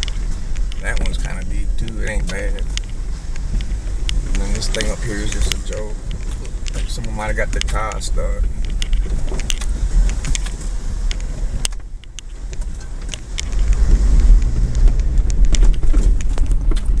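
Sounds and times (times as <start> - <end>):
body rattles and clicks: 0.0 - 17.0
off-road vehicle engine: 0.0 - 17.0.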